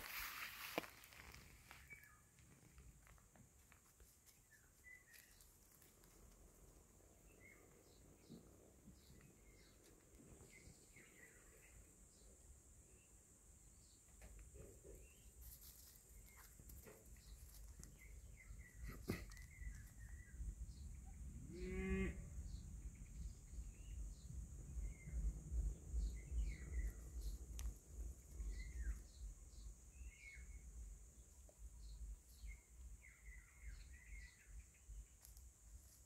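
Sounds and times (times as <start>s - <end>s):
small birds chirping: 0.0s - 21.4s, 22.4s - 36.0s.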